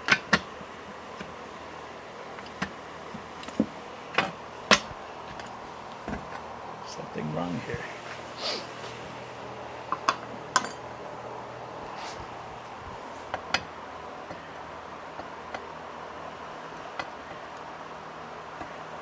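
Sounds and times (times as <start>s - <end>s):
low shop hum: 0.0s - 19.0s.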